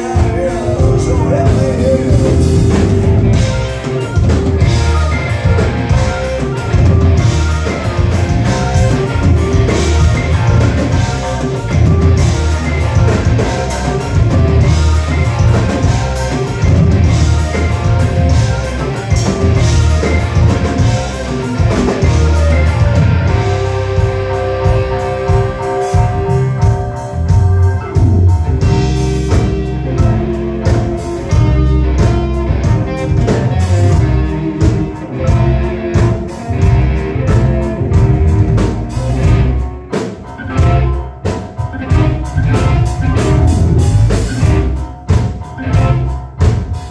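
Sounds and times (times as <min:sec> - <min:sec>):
rock band playing: 0:00.0 - 0:46.9.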